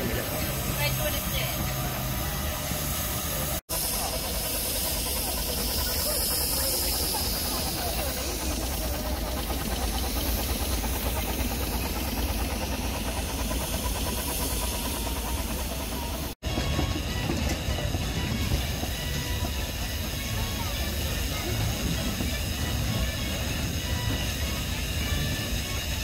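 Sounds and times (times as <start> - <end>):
low engine rumble: 0.0 - 26.0
steam hissing: 0.0 - 26.0.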